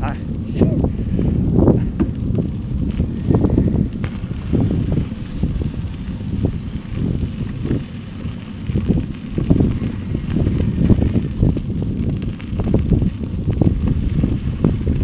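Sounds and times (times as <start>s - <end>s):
bike tyres and frame rattling: 0.0s - 15.0s
wind buffeting microphone: 0.0s - 15.0s.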